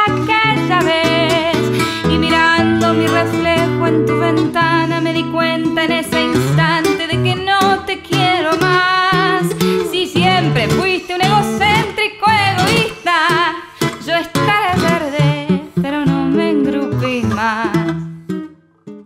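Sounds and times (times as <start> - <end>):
song sung over guitar: 0.0 - 18.2.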